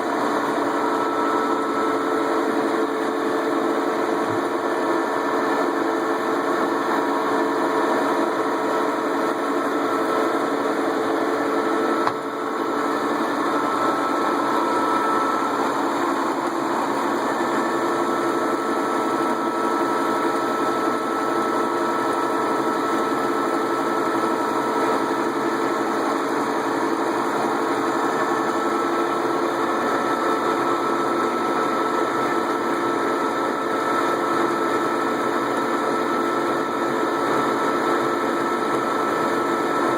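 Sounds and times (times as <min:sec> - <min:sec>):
metal lathe drone: 0:00.0 - 0:39.9.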